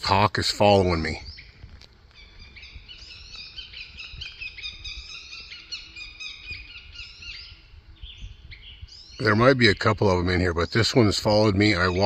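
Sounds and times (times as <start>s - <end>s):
low outdoor rumble: 0.0s - 12.0s
birds chirping and singing: 0.1s - 12.0s.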